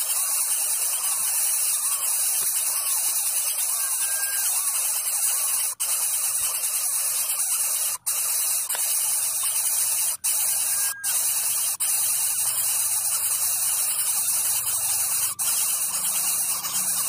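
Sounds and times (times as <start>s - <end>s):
high-pitched static hiss: 0.0s - 17.0s.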